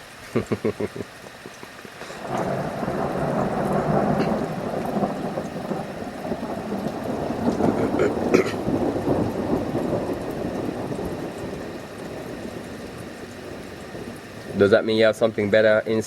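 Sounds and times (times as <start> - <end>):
faint rain: 0.0 - 16.0
thunder rumbling: 1.8 - 16.0.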